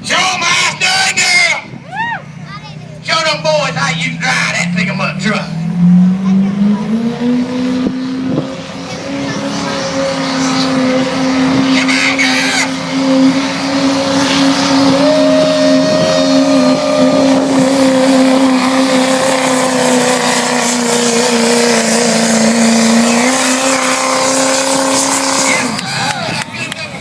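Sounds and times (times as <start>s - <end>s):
diesel engine at full throttle: 0.0s - 27.0s.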